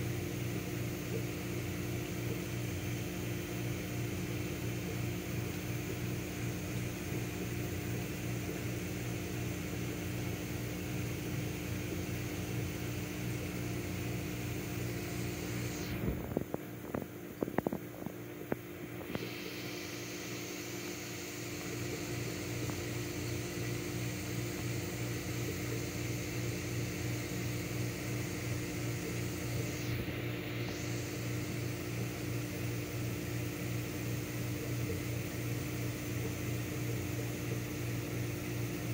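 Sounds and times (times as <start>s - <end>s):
aquarium equipment hum: 0.0s - 38.9s.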